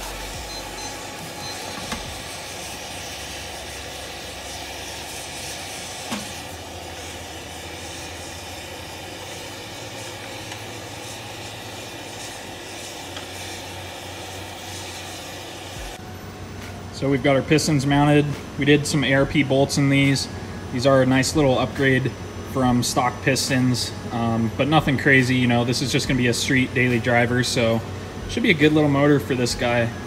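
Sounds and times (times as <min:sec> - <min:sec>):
gas burner flame hissing: 0:00.0 - 0:30.0.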